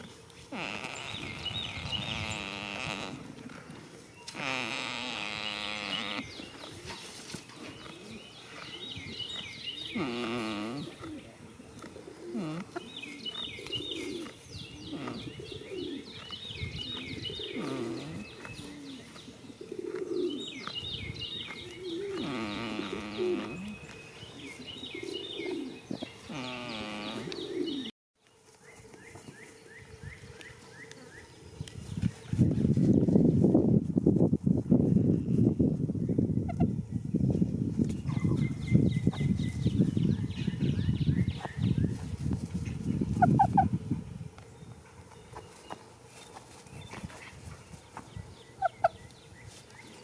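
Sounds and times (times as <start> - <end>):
songbirds chirping: 0.0 - 33.8, 34.6 - 50.0.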